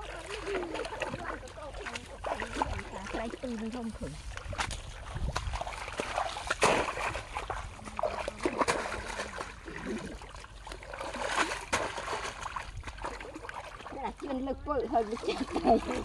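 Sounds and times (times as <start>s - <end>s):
splashing in muddy water: 0.0s - 16.0s.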